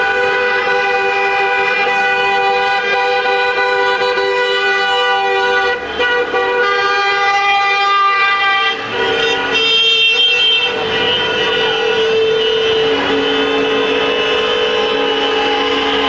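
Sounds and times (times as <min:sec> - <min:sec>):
car horns blowing long blasts: 0:00.0 - 0:16.0.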